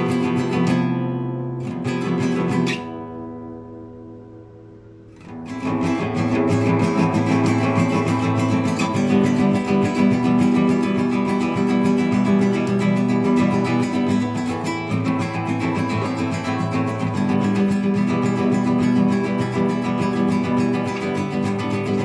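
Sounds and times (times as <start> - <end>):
classical guitar plucked arpeggios: 0.0 - 22.0.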